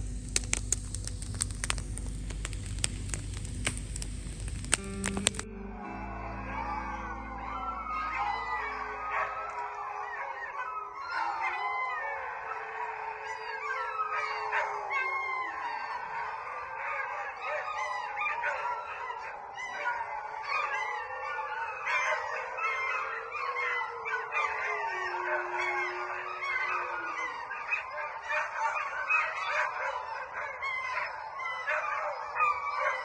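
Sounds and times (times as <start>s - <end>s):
sled dogs howling and yelping: 0.0s - 33.0s
long low dog howl: 2.4s - 33.0s.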